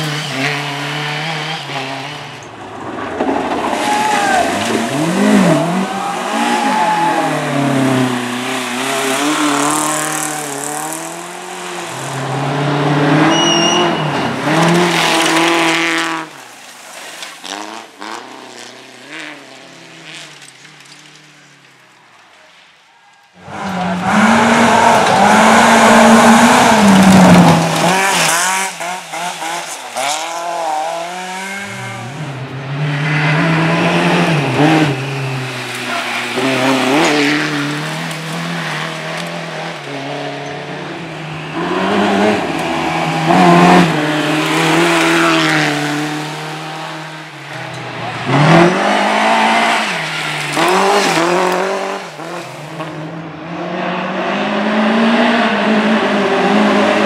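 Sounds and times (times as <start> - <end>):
rally car engine revving: 0.0 - 21.3, 23.4 - 57.0.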